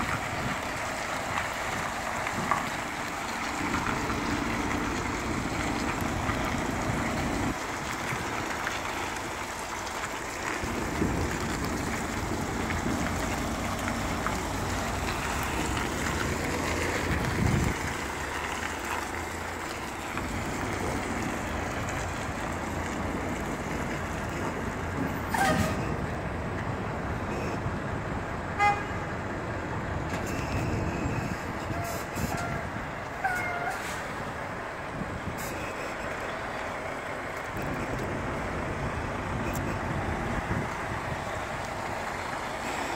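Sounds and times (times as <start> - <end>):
truck engine and road noise: 0.0 - 42.9.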